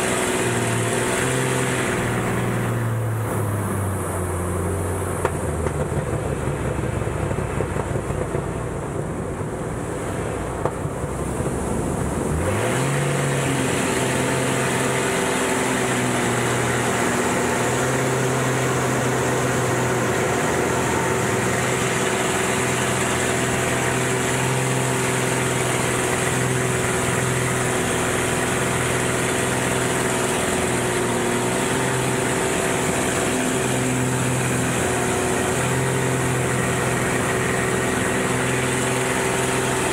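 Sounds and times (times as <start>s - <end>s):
propeller plane engine: 0.0s - 39.9s.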